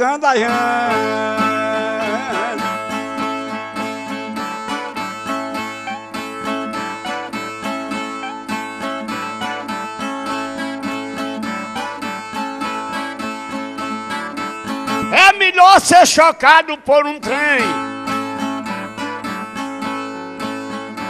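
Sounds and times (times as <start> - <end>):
plucked string instrument: 0.2 - 16.3, 17.0 - 21.0.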